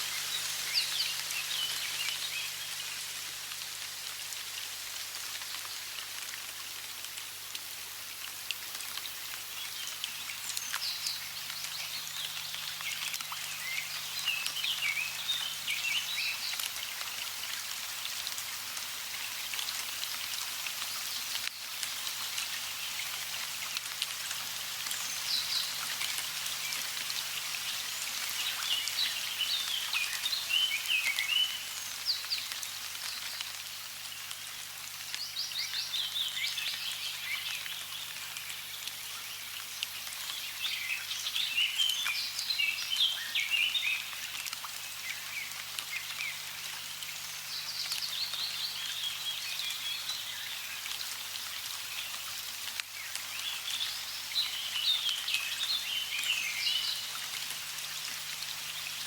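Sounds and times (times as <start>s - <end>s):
songbirds chirping: 0.0s - 5.9s, 8.3s - 18.1s, 24.5s - 59.0s
running water splashing: 0.0s - 59.0s.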